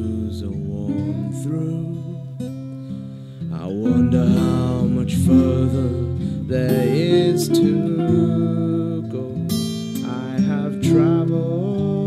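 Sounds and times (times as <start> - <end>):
man singing: 0.0 - 2.6, 3.4 - 12.0
acoustic guitar folk song: 0.0 - 12.0.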